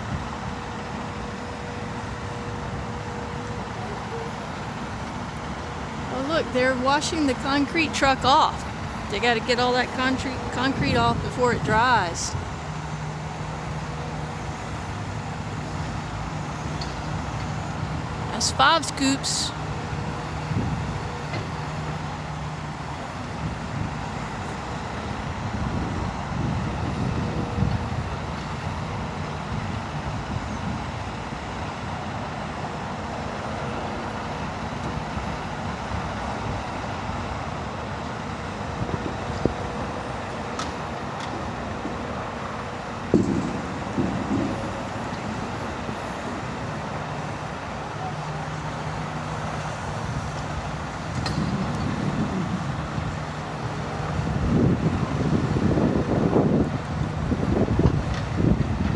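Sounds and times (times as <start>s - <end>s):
heavy machinery diesel engines: 0.0s - 58.9s.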